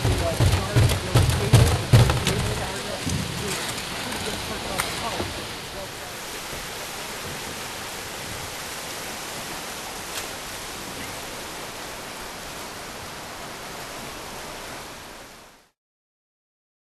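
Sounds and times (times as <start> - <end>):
river rapids rushing: 0.0 - 15.8.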